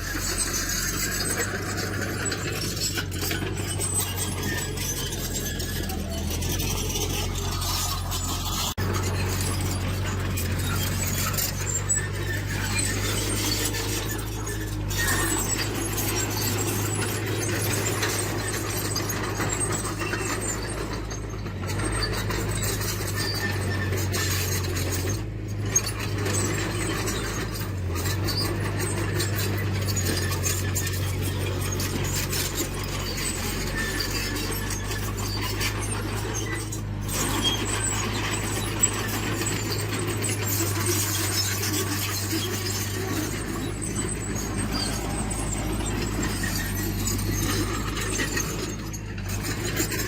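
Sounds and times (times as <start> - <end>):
crawler tracks clinking and squeaking: 0.0 - 50.0
diesel engine running: 0.0 - 50.0.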